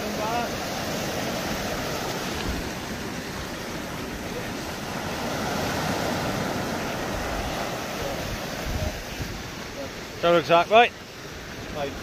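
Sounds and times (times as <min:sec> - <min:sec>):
wind rumbling on microphone: 0:00.0 - 0:09.7
waves breaking on shore: 0:00.0 - 0:12.0.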